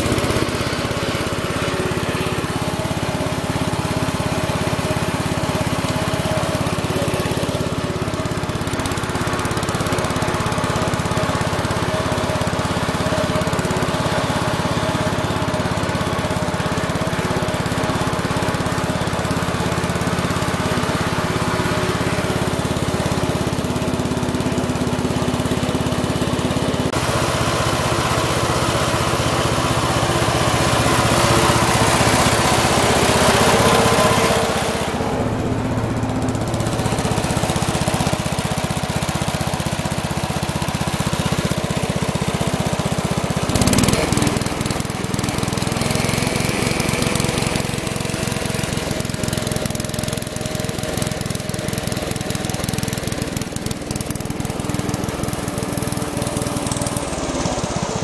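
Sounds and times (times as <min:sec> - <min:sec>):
garden tractor engine running: 0:00.0 - 0:58.0.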